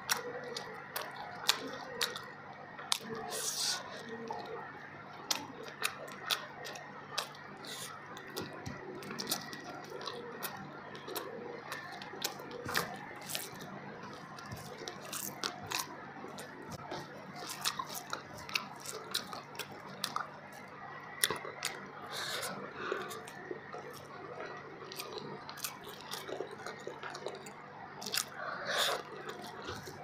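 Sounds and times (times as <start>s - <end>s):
person chewing wetly: 0.0s - 30.0s.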